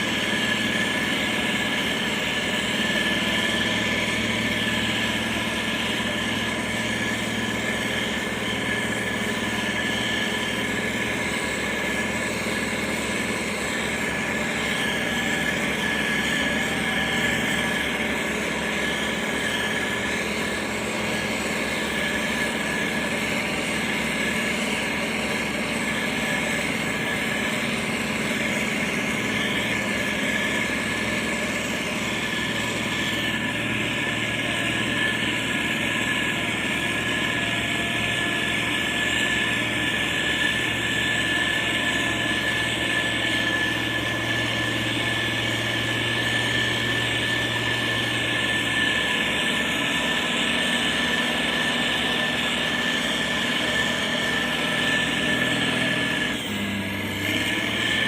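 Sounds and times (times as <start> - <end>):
diesel engine running: 0.0 - 58.0
thin high whine: 0.0 - 58.0.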